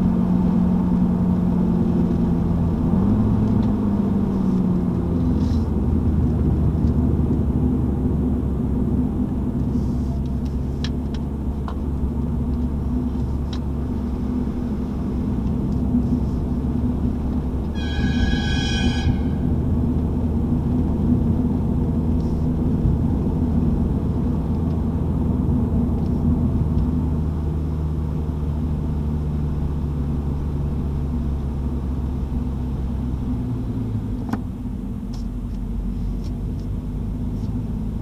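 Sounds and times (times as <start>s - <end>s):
car engine running at low revs: 0.0s - 38.0s.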